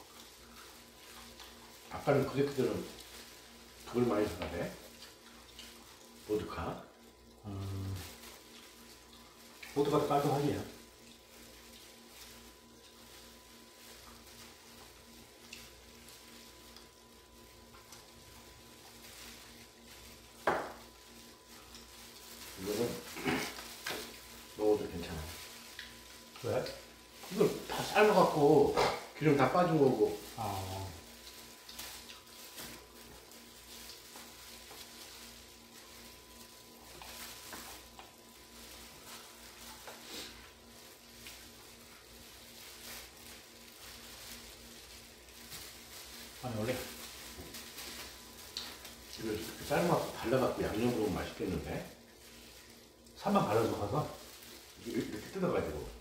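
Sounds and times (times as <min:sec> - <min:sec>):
faint steady hum: 0:00.0 - 0:56.0
plastic gloves crinkling: 0:00.0 - 0:56.0.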